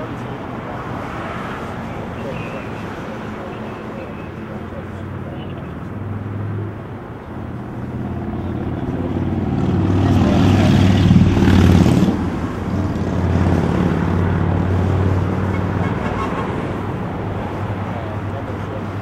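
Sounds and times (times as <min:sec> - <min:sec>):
highway traffic: 0:00.0 - 0:19.0
vehicle passing: 0:00.0 - 0:19.0.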